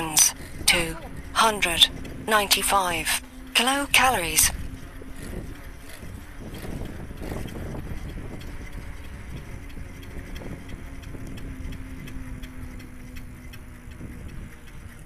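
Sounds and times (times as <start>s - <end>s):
rumbling rattling travel noise: 0.0s - 15.0s
steady low hum: 0.0s - 15.0s.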